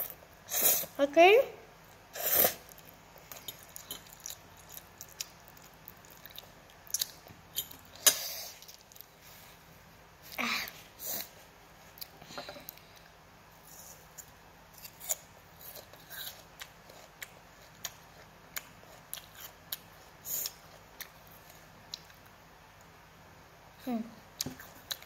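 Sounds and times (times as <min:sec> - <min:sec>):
child chewing noodles: 0:01.8 - 0:23.0, 0:24.3 - 0:25.0.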